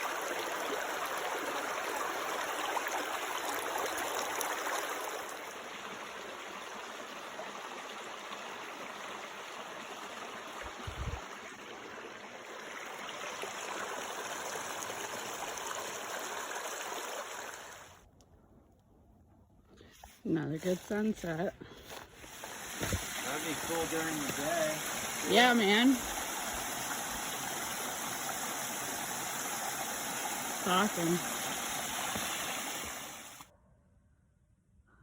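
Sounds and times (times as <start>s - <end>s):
stream running over rocks: 0.0s - 18.1s, 20.6s - 33.5s.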